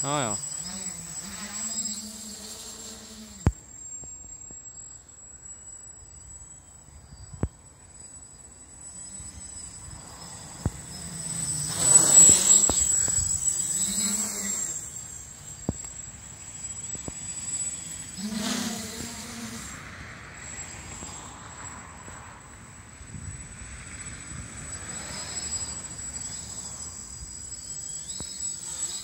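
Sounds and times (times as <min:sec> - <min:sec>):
quadcopter buzzing overhead: 0:00.0 - 0:29.0.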